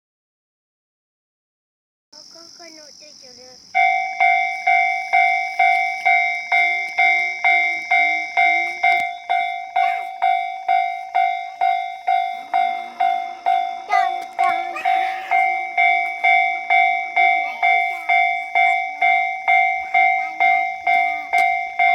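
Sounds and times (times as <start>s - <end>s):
level crossing warning bell: 3.8s - 21.9s.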